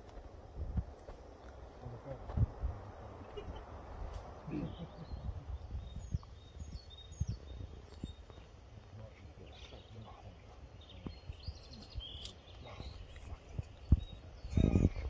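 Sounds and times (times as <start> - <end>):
small birds chirping: 0.0 - 15.0
wind rumbling on microphone: 0.0 - 15.0.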